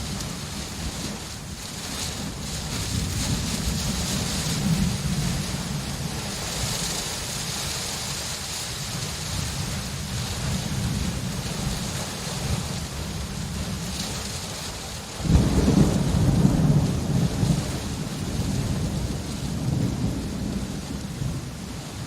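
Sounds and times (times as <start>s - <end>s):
low rumble of thunder: 0.0s - 22.0s
steady rain falling: 0.0s - 22.0s.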